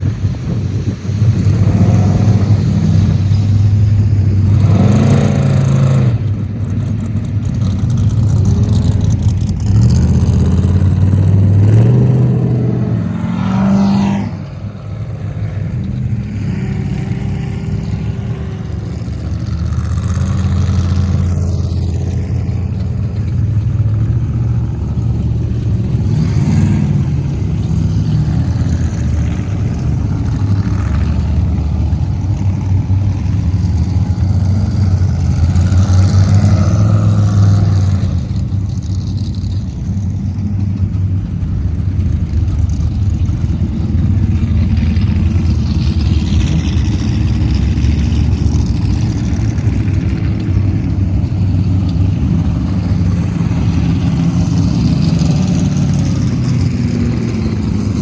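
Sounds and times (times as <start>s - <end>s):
race vehicles revving past: 0.0s - 58.0s
steady low engine drone: 0.0s - 58.0s.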